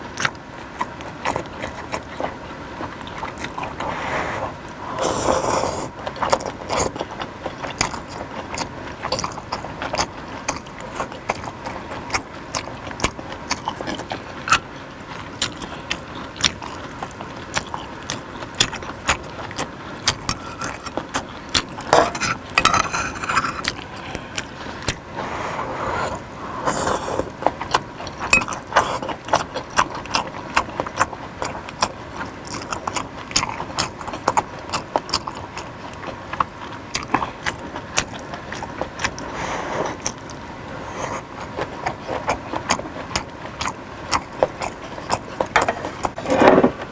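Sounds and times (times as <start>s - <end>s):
chewing with wet mouth clicks: 0.0s - 3.9s, 4.6s - 25.1s, 26.8s - 46.2s
slurping or crunching: 0.8s - 46.8s.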